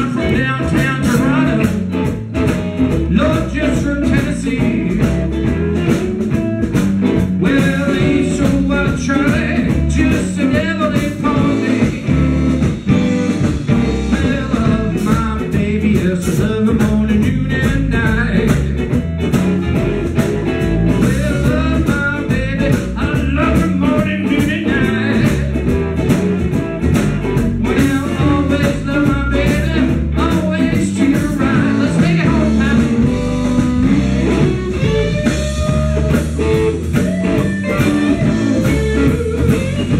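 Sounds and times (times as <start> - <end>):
lead guitar: 0.0 - 39.9
live blues band: 0.0 - 39.9.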